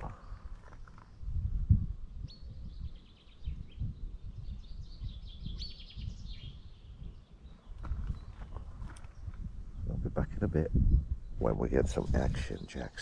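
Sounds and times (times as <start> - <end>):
small bird singing: 0.0 - 13.0
wind rumble on microphone: 0.0 - 13.0.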